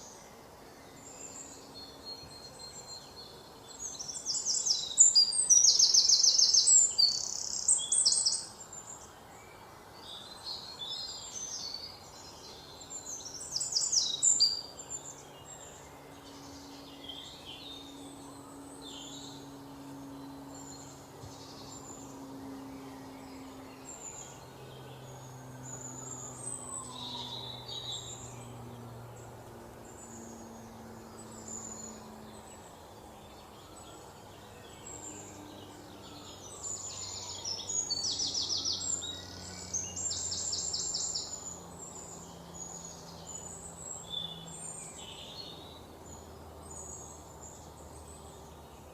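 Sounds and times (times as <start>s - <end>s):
faint low hum: 0.0s - 48.9s
small birds chirping: 0.0s - 48.9s.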